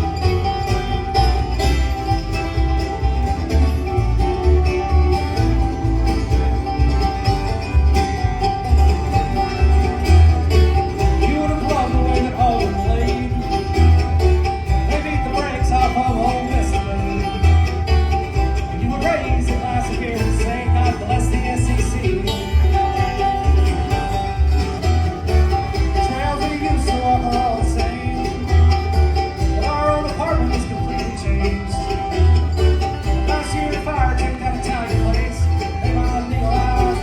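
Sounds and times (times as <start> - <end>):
country song with plucked strings: 0.0 - 37.0.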